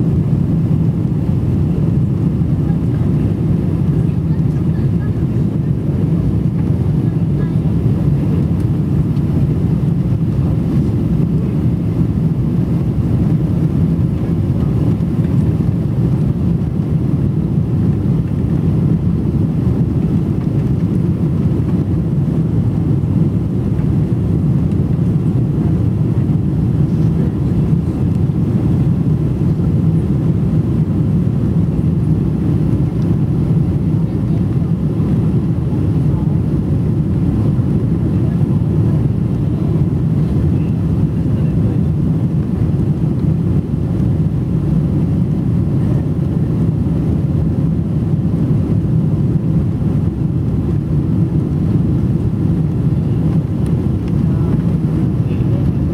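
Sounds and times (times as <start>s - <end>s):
airflow noise: 0.0s - 55.9s
airplane cabin engine rumble: 0.0s - 55.9s.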